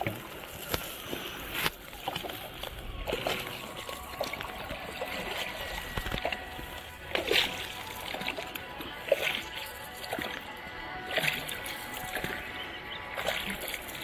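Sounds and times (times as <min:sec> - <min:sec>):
water splashing around boat: 0:00.0 - 0:14.0.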